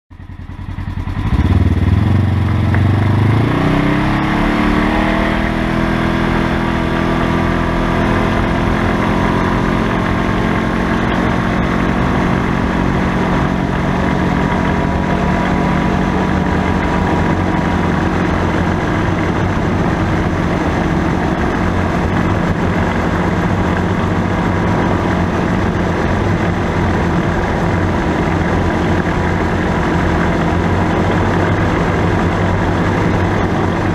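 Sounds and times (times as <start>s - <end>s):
utility vehicle engine pulling away: 0.6s - 33.9s.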